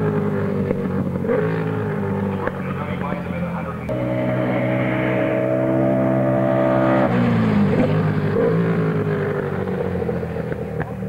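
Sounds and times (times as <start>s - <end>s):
motorcycle engine running hard: 0.0s - 11.0s.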